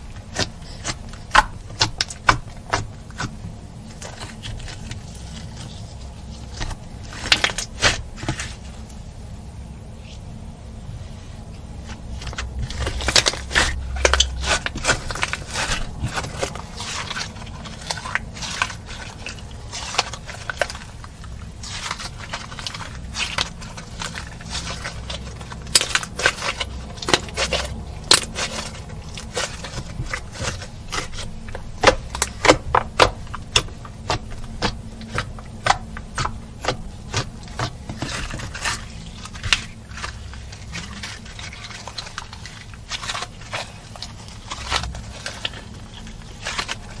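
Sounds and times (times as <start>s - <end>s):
slime squishing with sticky clicks: 0.0s - 9.2s, 11.6s - 47.0s.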